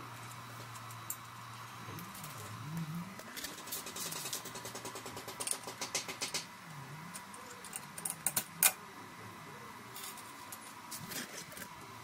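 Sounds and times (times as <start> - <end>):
faint low wavering hum: 0.0 - 5.6, 6.4 - 12.0.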